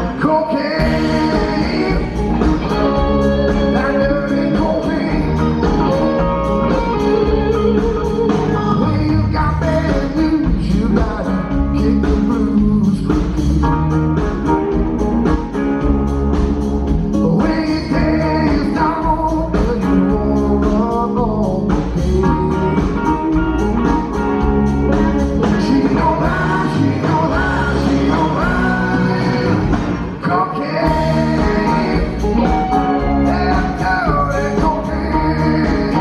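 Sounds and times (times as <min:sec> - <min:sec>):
person singing: 0:00.0 - 0:13.7, 0:17.0 - 0:24.1, 0:24.9 - 0:36.0
live blues band: 0:00.0 - 0:36.0.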